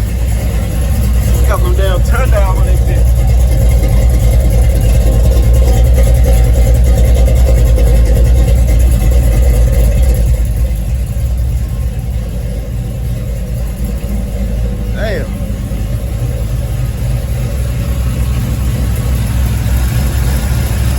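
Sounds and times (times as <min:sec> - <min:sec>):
engine exhaust rumble: 0:00.0 - 0:20.9.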